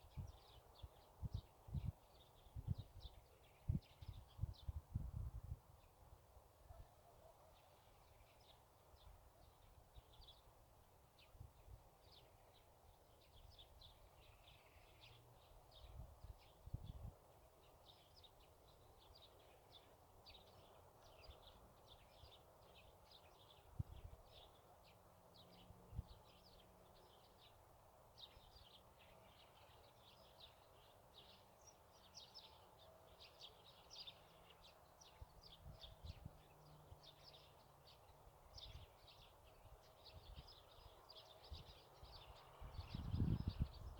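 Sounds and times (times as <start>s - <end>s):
small birds chirping: 6.7s - 43.9s.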